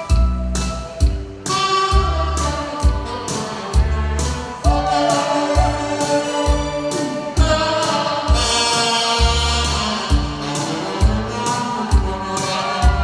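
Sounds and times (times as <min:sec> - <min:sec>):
saxophone melody: 0:00.0 - 0:13.0
backing track with kick drum: 0:00.1 - 0:13.0.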